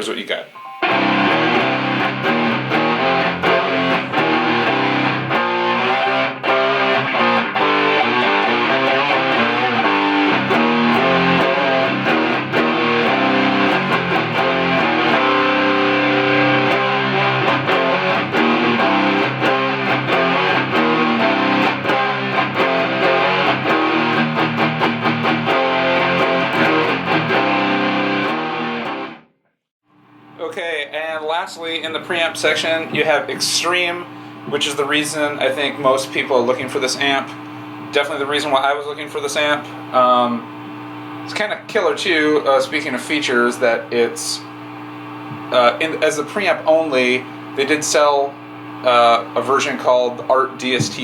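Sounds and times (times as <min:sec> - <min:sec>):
distorted electric guitar riffs: 0:00.5 - 0:29.3, 0:29.9 - 0:51.0.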